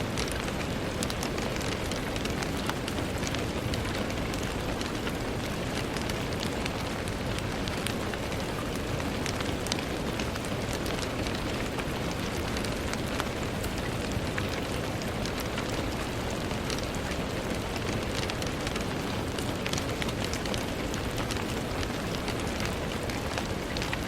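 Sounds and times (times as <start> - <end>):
rain hiss on window: 0.0 - 24.0
raindrops ticking on glass: 0.0 - 24.0.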